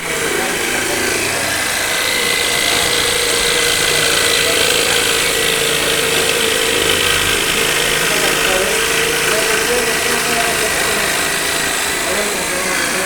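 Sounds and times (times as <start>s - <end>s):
power tool running with whine: 0.0s - 13.0s.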